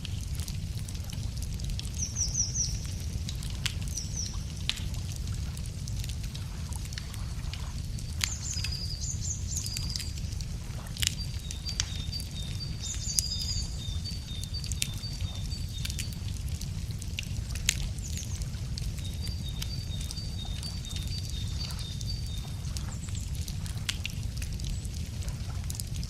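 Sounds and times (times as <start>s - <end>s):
low rumble: 0.0s - 26.0s
wood fire crackling: 0.0s - 26.0s.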